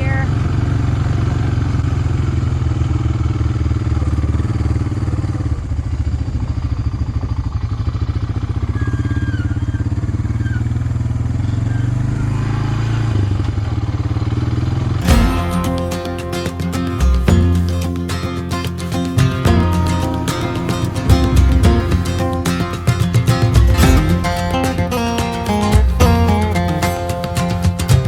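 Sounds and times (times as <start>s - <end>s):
atv engine droning: 0.0s - 28.0s.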